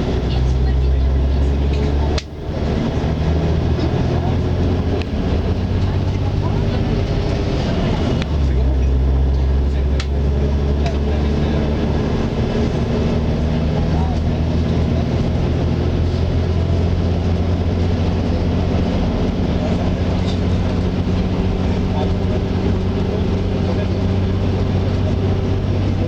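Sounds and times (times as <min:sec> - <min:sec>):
diesel engine droning: 0:00.0 - 0:26.0.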